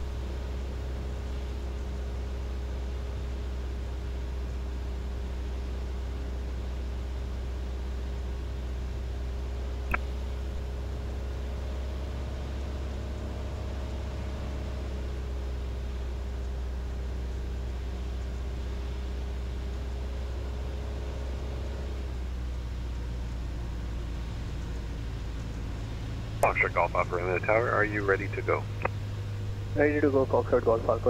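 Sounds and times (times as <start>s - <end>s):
aircraft engine and propeller drone: 0.0s - 31.0s
faint steady whine: 0.0s - 31.0s.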